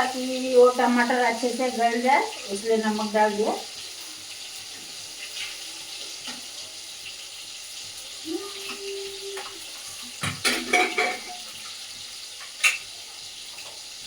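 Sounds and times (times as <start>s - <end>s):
tomatoes sizzling in hot oil: 0.0s - 14.0s.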